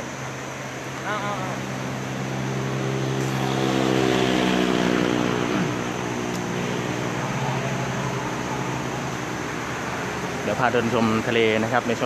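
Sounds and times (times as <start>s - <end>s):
vehicle engine passing by: 0.0s - 12.0s
wind: 0.0s - 12.0s.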